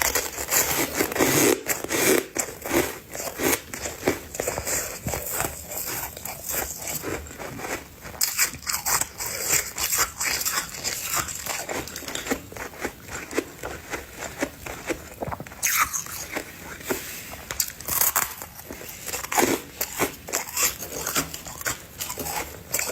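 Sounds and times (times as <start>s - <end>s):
ice being chewed: 0.0s - 22.9s.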